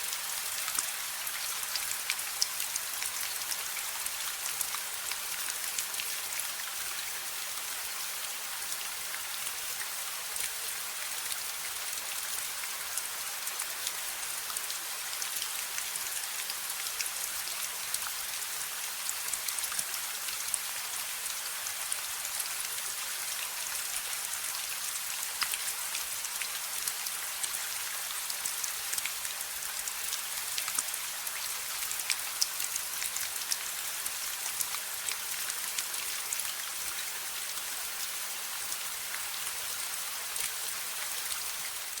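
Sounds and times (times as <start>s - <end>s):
steady rain on hard surfaces: 0.0s - 42.0s.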